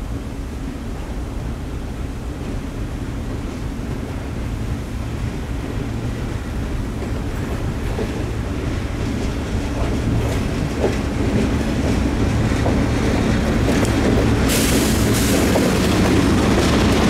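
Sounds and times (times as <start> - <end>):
diesel locomotive engine rumble: 0.0 - 17.0
steel wheels hissing on rail: 0.1 - 17.0.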